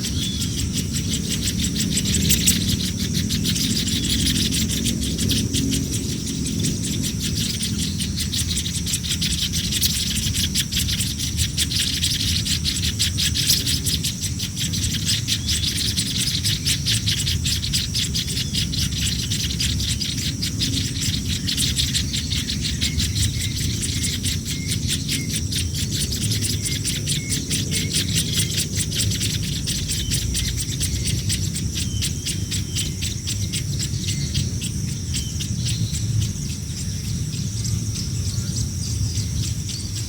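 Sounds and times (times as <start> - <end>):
chicks chirping: 0.0 - 40.0
steady low rumble: 0.0 - 40.0.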